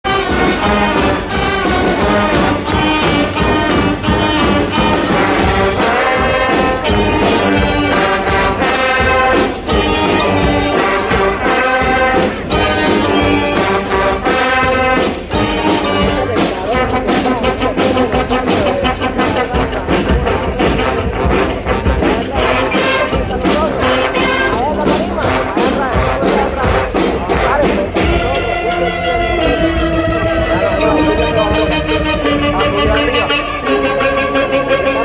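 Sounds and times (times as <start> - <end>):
street brass band playing: 0.0 - 35.0.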